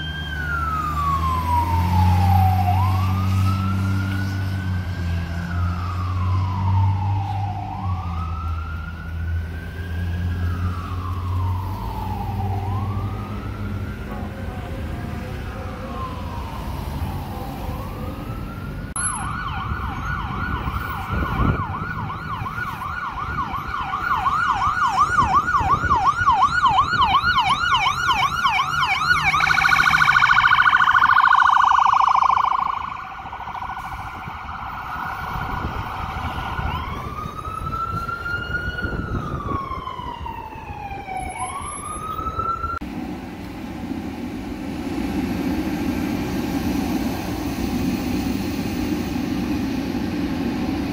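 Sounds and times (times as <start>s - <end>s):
siren yelping: 0.0s - 14.1s, 15.6s - 42.8s
siren wailing: 0.0s - 42.9s
steady siren tone: 0.0s - 50.9s.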